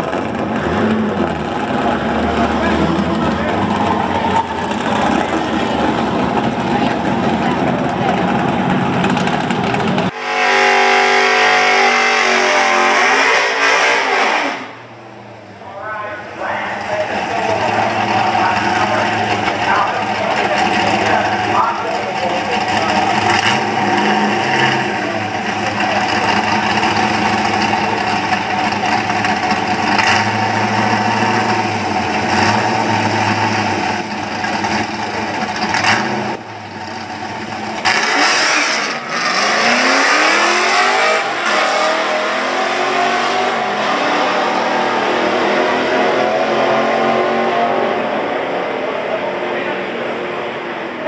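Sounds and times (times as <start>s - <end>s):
car engine revving and accelerating: 0.0s - 15.0s, 16.4s - 51.0s.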